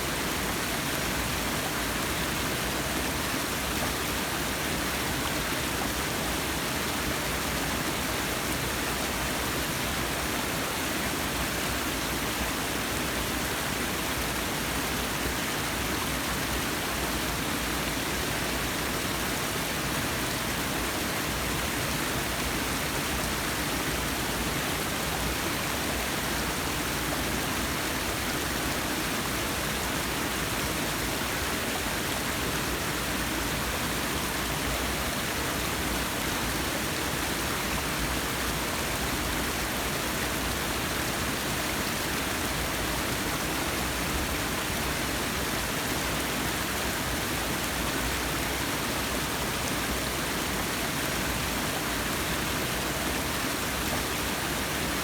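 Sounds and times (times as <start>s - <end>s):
waterfall pouring and splashing: 0.0s - 55.0s.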